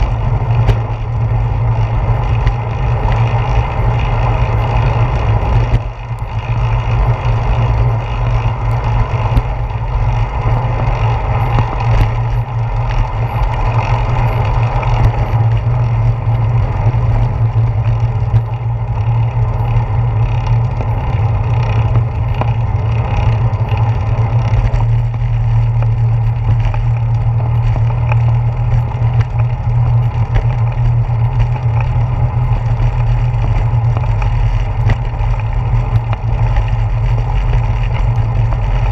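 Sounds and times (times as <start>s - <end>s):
bicycle road vibration: 0.0s - 38.9s.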